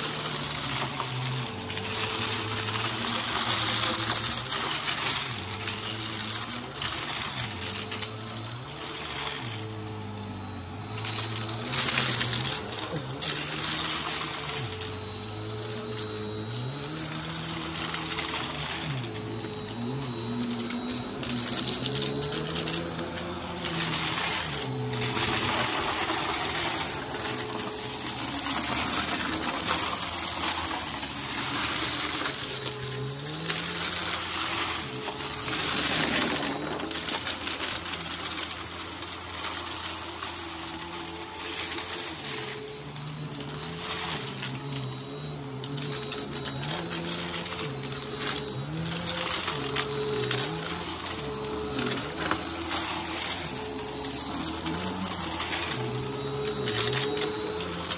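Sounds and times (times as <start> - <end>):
vacuum cleaner motor hum: 0.0 - 57.9.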